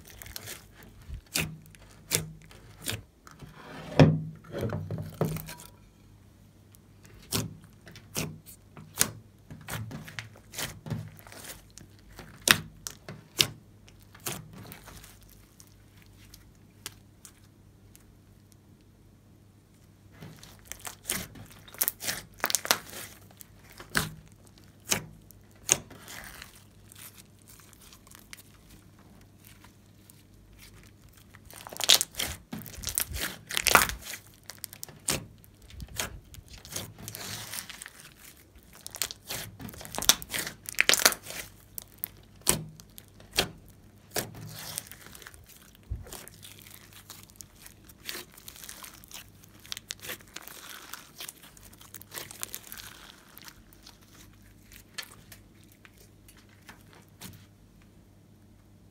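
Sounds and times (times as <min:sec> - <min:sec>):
slime squelching and popping: 0:00.0 - 0:03.1, 0:07.0 - 0:18.5, 0:20.1 - 0:57.4.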